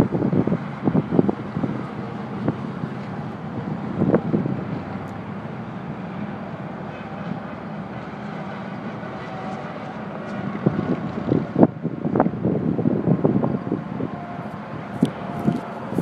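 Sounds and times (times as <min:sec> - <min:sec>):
road vehicle rumble: 0:00.0 - 0:16.0
wind buffeting microphone: 0:00.0 - 0:16.0.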